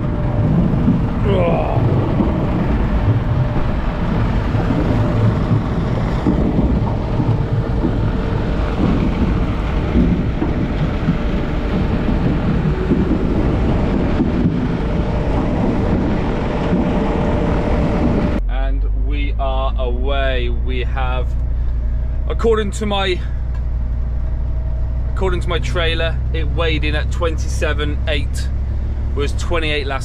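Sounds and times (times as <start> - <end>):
machine mechanical rumble: 0.0 - 30.0
wind buffeting microphone: 0.0 - 30.0.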